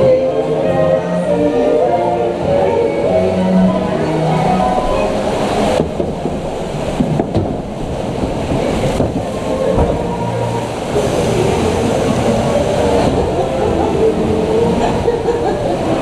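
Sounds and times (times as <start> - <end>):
flume water rushing: 0.0 - 16.0
ride mechanism rumble and clatter: 2.3 - 16.0.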